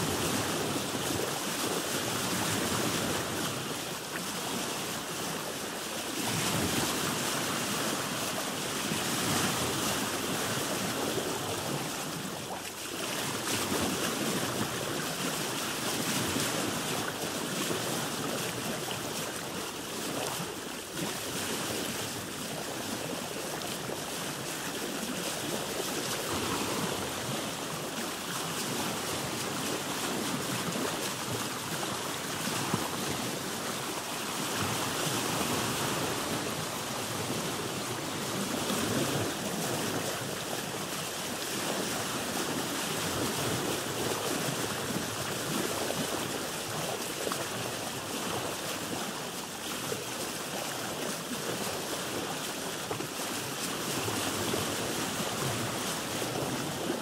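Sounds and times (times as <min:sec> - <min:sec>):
sea water washing around boat: 0:00.0 - 0:57.0.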